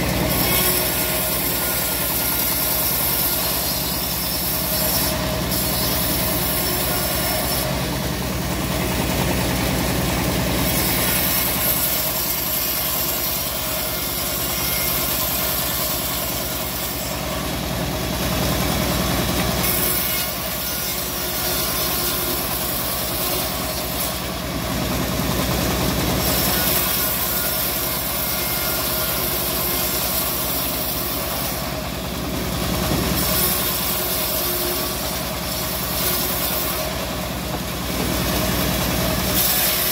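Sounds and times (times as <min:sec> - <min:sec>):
bandsaw blade cutting wood: 0:00.0 - 0:39.9.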